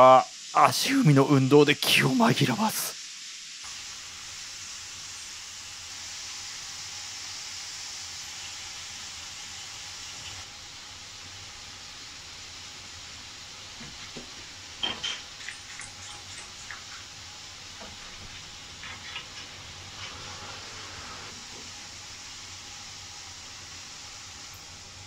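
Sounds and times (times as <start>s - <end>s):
meat sizzling in a frying pan: 0.0s - 25.0s.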